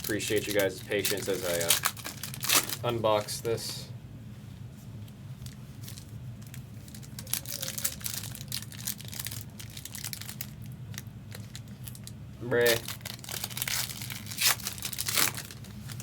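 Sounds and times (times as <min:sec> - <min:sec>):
wrapper crinkling: 0:00.0 - 0:02.9, 0:05.4 - 0:16.0
steady low hum: 0:00.0 - 0:16.0.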